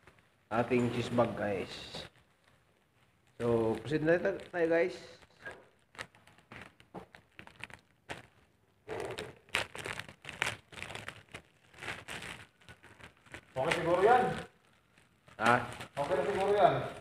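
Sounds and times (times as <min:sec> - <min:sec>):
plastic mailer crinkling: 0:00.0 - 0:17.0.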